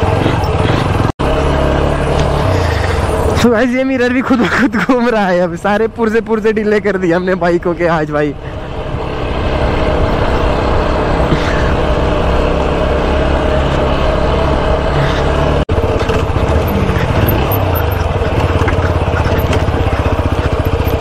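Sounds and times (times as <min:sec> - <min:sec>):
motorcycle engine running: 0:00.0 - 0:04.1, 0:06.8 - 0:21.0.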